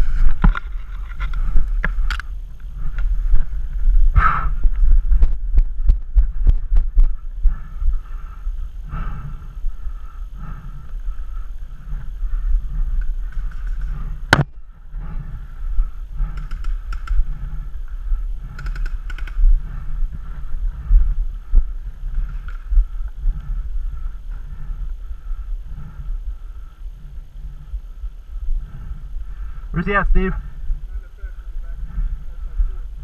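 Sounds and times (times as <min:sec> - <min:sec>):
wind and handling rumble: 0:00.0 - 0:33.0.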